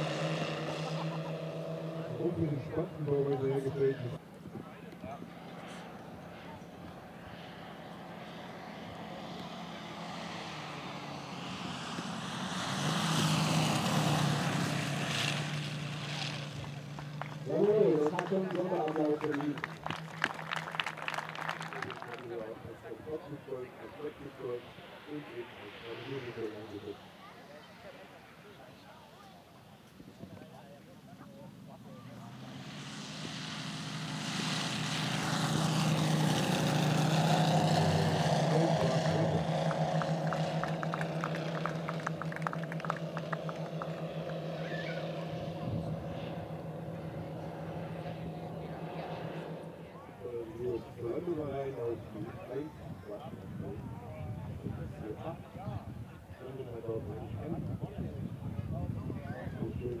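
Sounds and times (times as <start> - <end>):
model airplane engines droning: 0.0 - 60.0.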